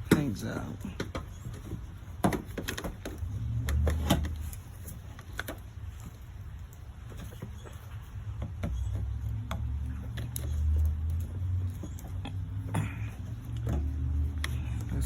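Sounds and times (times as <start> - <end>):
clicks and knocks of plastic and tool: 0.0 - 15.0.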